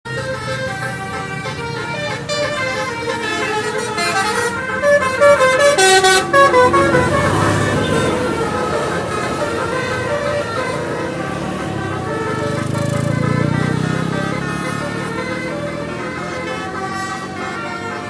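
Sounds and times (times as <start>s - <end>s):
multi-tone bus horns melody: 0.0s - 18.0s.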